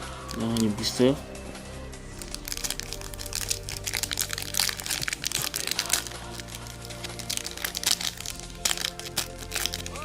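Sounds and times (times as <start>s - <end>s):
background music: 0.0s - 10.0s
foil wrapper crinkling: 0.1s - 0.9s, 2.2s - 10.0s.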